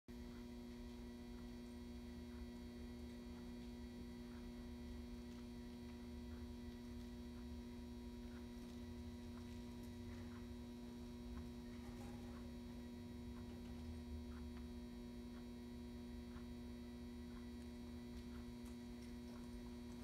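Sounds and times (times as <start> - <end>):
electrical mains hum: 0.1 - 20.0.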